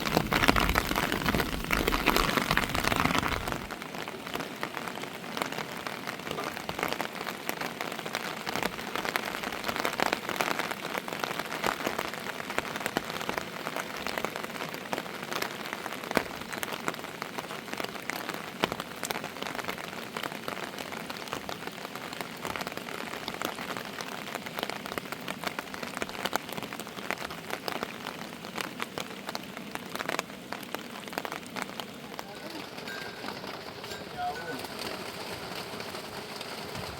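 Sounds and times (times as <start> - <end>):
raindrops ticking on a surface: 0.0 - 36.9
steady rain hissing: 0.0 - 36.9.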